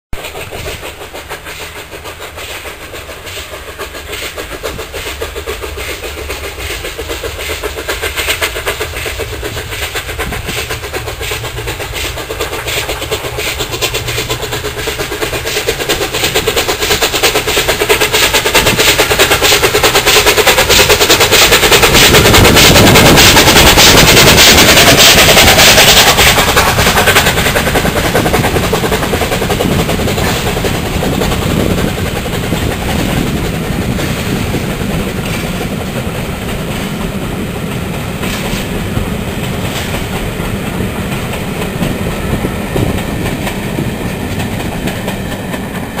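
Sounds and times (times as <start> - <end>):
steam locomotive exhaust beats: 0.1 - 46.0
train coaches rolling by: 0.1 - 46.0
wheels clicking over rail joints: 0.2 - 46.0.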